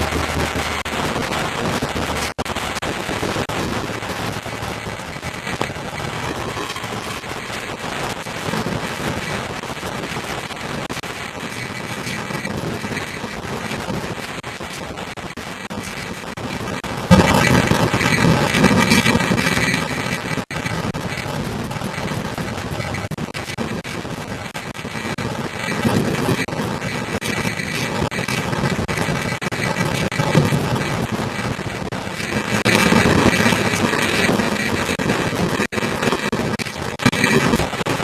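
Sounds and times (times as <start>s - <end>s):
rain: 0.0s - 38.0s.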